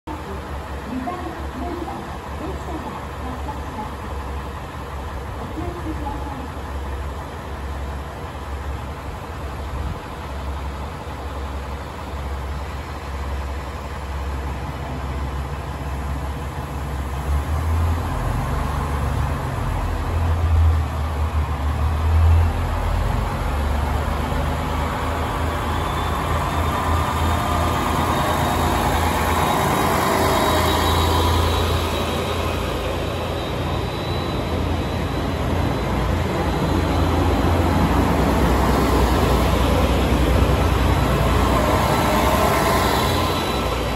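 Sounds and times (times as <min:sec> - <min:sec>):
diesel railcar rumble: 0:00.0 - 0:43.9.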